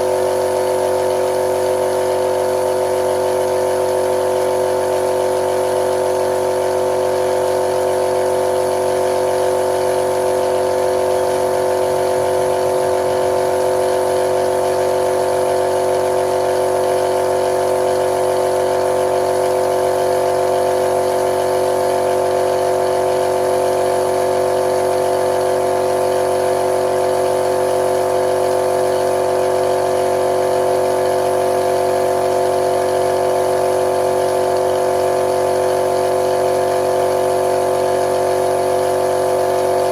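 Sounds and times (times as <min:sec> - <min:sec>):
spray painting motor humming: 0:00.0 - 0:39.9.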